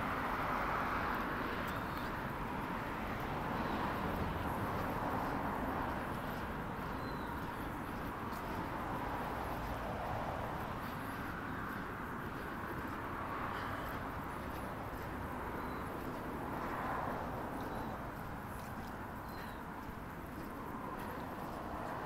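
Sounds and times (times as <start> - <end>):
footsteps on paved path: 0.0 - 22.0
road traffic hiss: 0.0 - 22.0.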